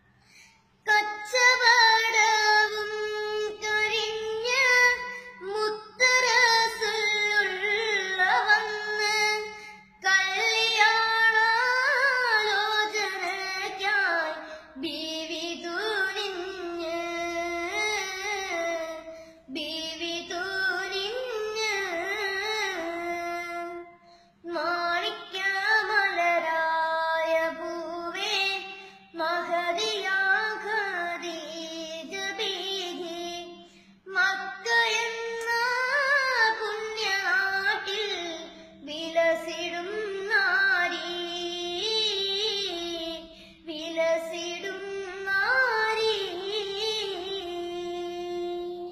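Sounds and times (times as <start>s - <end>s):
boy singing in high voice: 0.8s - 48.9s.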